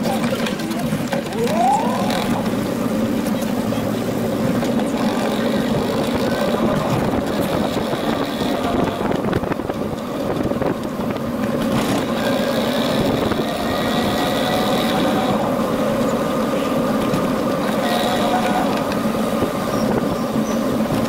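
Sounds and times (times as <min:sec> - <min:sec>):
bicycle tyres on pavement: 0:00.0 - 0:21.0
wind on microphone: 0:04.0 - 0:21.0.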